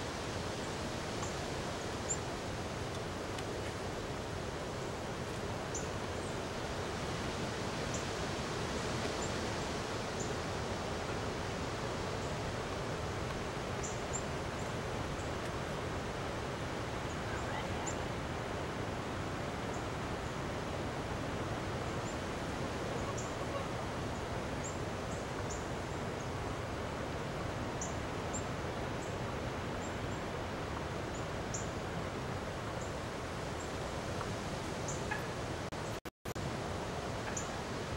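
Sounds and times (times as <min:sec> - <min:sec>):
wind rushing in woods: 0:00.0 - 0:37.9.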